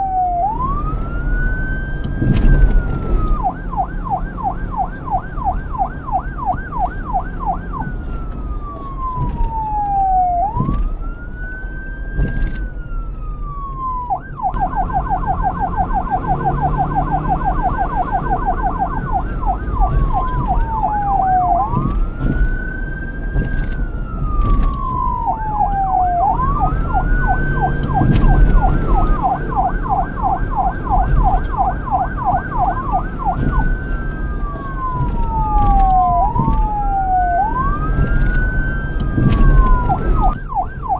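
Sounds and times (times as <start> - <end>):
police siren wailing and yelping: 0.0 - 40.9.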